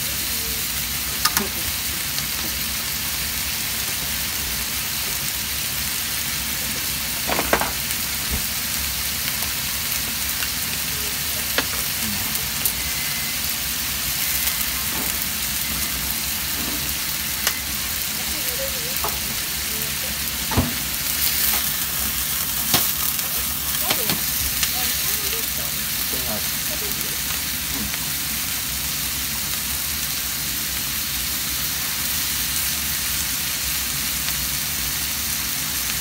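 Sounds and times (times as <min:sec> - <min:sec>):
food sizzling in a frying pan: 0:00.0 - 0:36.0.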